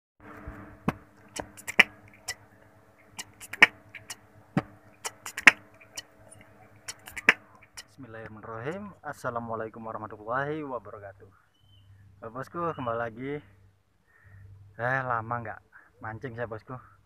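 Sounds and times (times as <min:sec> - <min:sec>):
faint steady hum: 0:00.2 - 0:17.0.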